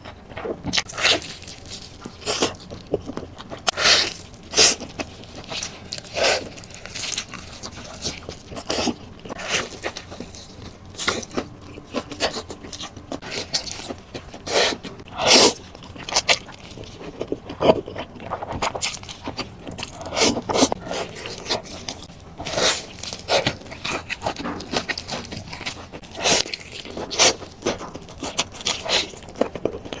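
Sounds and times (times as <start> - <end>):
chewing and mouth noises: 0.0 - 30.0.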